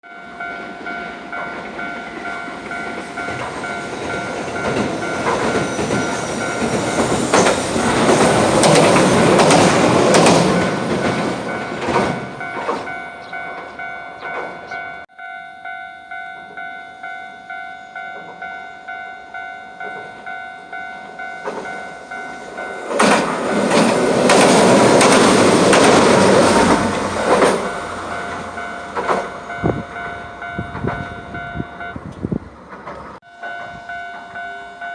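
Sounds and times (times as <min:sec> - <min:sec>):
level crossing alarm ringing: 0:00.1 - 0:25.4, 0:27.5 - 0:32.0, 0:33.2 - 0:34.9
tram wheels clattering on rails: 0:00.2 - 0:15.1, 0:17.9 - 0:34.9.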